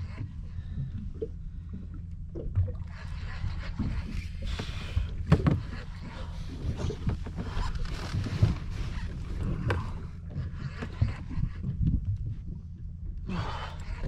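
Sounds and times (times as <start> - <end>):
water moving around boat hull: 0.0 - 14.0.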